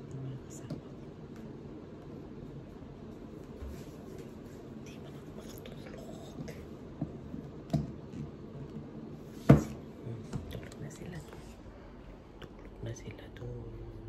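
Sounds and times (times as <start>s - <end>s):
room hiss: 0.0s - 14.0s.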